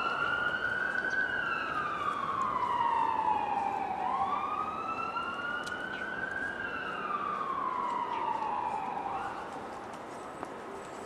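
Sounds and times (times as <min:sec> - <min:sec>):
emergency vehicle siren wailing: 0:00.0 - 0:10.1.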